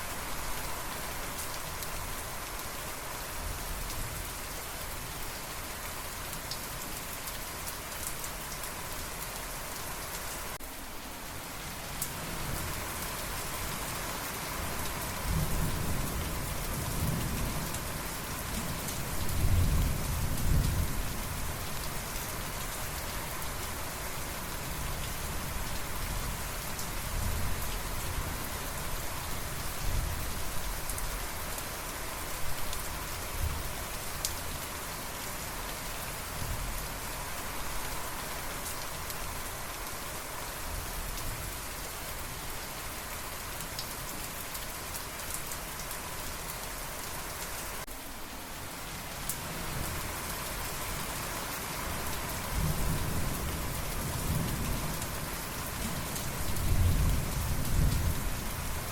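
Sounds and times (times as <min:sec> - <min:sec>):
steady rainfall hissing: 0:00.0 - 0:58.9.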